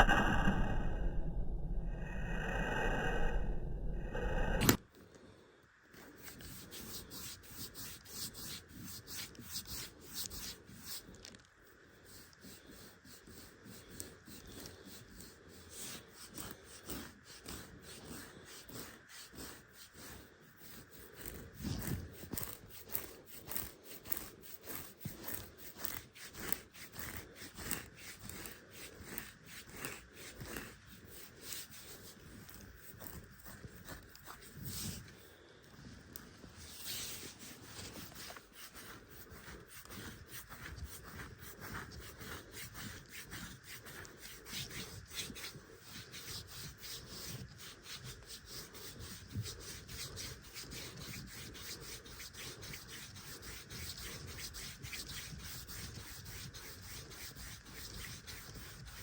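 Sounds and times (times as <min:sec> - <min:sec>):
fingernails scratching dry skin: 0:06.0 - 0:35.4, 0:36.2 - 0:59.0.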